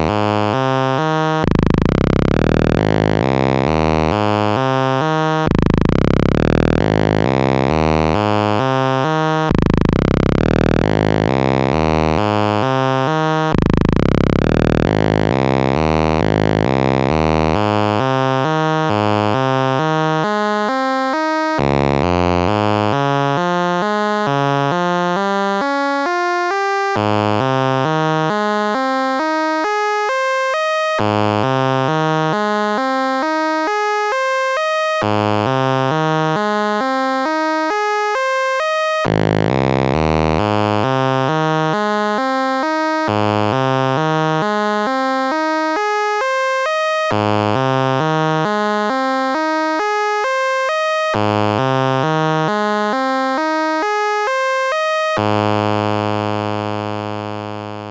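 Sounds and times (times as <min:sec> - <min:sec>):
synthesizer stepped note sequence: 0:00.0 - 0:57.9.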